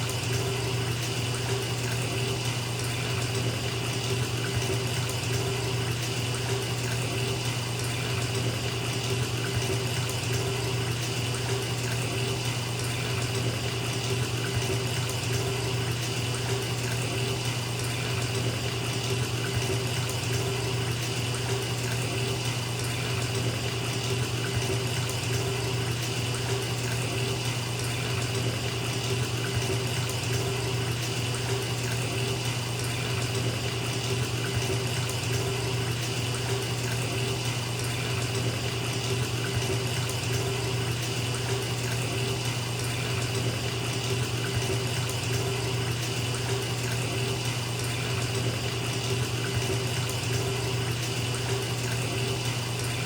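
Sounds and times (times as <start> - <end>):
tap water pouring into bathtub: 0.0 - 53.0.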